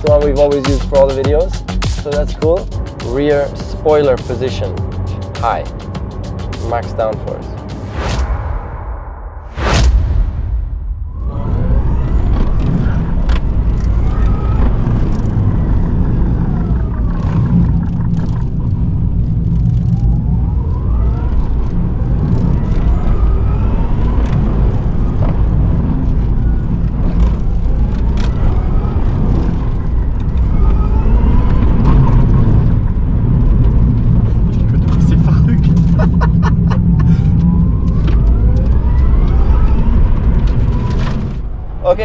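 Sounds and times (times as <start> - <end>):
tyre and road noise: 0.0 - 8.7, 9.4 - 42.0.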